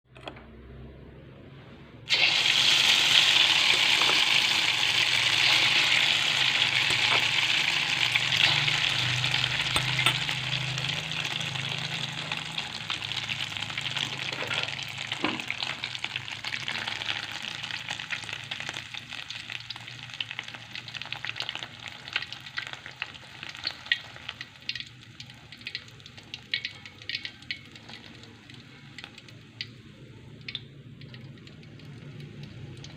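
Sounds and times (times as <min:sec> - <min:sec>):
egg frying in hot oil: 0:02.1 - 0:32.9.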